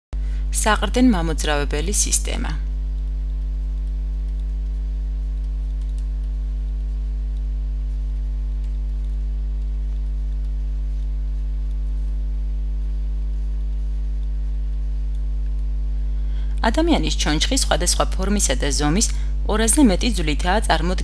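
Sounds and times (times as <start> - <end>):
electrical mains hum: 0.2 - 21.0.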